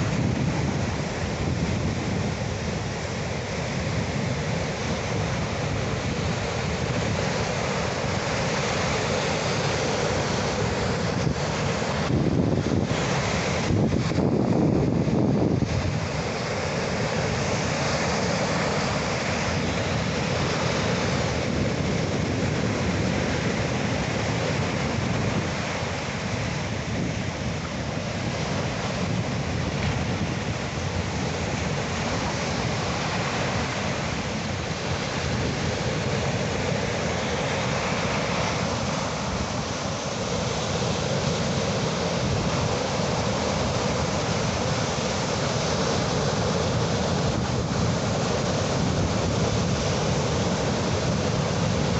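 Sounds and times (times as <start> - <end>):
sea surf waves washing in: 0.0 - 51.9.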